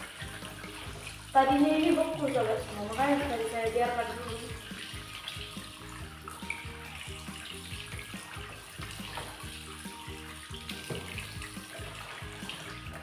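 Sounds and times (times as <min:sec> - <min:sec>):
background music: 0:00.0 - 0:13.0
tap running into basin: 0:00.0 - 0:13.0
water splashing: 0:00.0 - 0:13.0.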